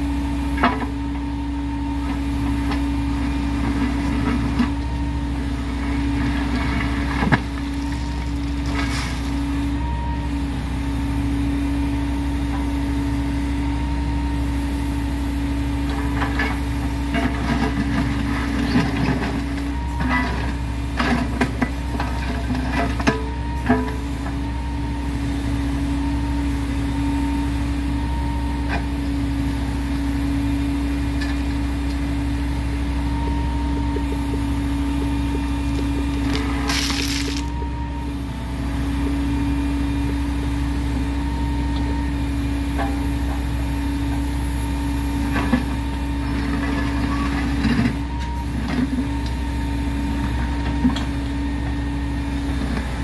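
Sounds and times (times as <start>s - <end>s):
heavy machinery engine idling: 0.0s - 53.0s.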